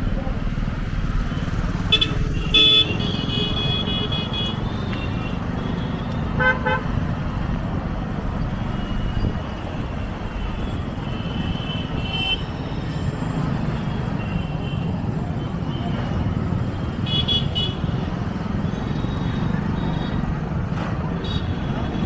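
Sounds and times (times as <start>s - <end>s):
road traffic engine rumble: 0.0s - 22.0s.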